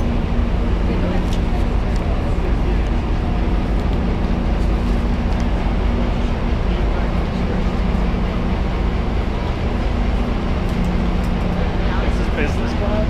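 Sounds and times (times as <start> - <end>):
passenger train idling hum: 0.0 - 13.0.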